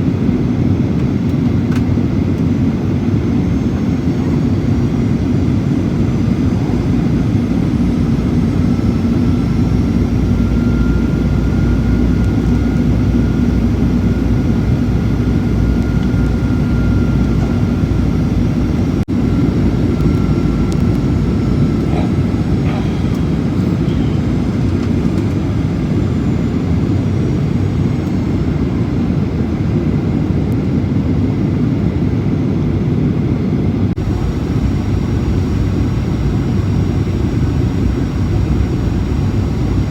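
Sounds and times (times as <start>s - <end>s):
jet airliner engines rumbling: 0.0s - 39.9s.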